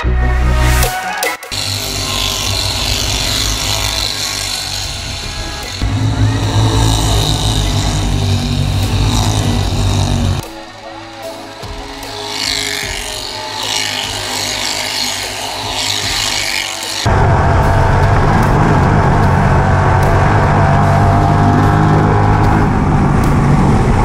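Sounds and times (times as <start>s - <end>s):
race car engines: 1.5s - 24.0s.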